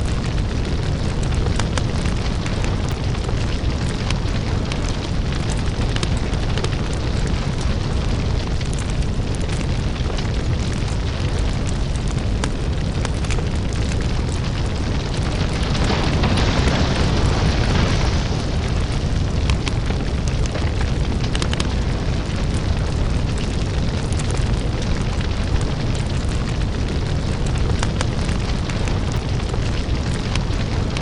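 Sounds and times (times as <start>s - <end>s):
deep rumble: 0.0s - 31.0s
lava crackling and popping: 0.0s - 31.0s.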